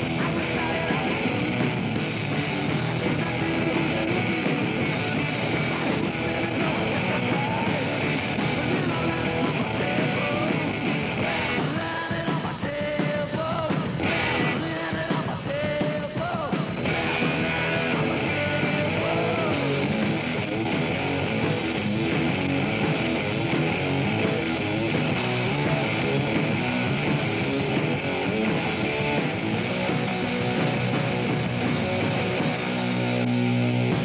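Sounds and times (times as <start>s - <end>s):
rock music with guitar: 0.0s - 34.0s.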